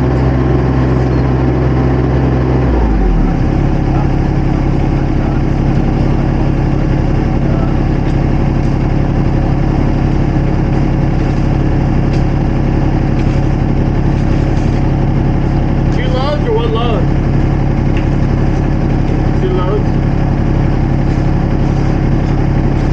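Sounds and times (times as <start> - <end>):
construction machine engine idling: 0.0 - 22.9.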